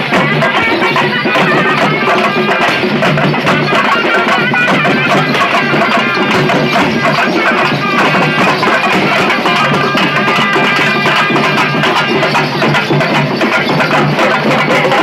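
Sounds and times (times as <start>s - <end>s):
drums beating: 0.0s - 15.0s
held melody line: 0.0s - 15.0s.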